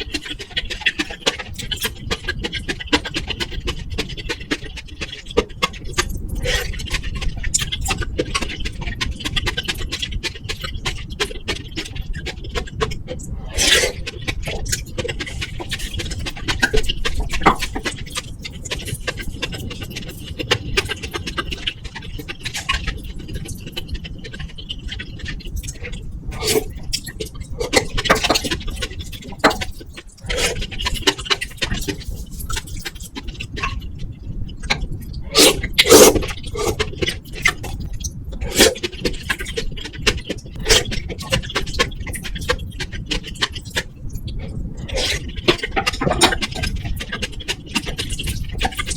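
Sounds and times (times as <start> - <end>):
chewing: 0.0 - 48.9.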